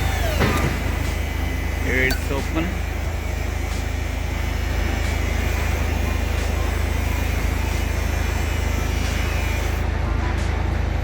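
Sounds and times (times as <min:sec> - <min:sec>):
truck engine idling: 0:00.0 - 0:09.8.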